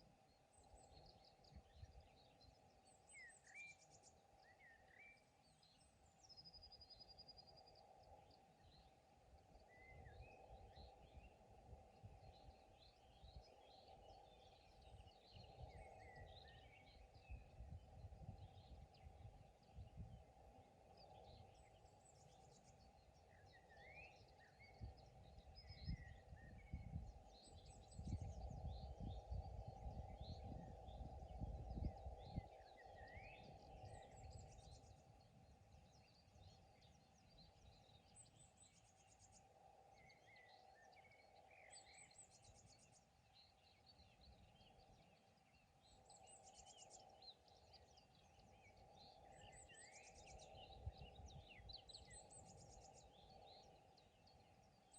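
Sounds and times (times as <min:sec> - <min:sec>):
songbirds chirping and trilling: 0:00.0 - 0:54.9.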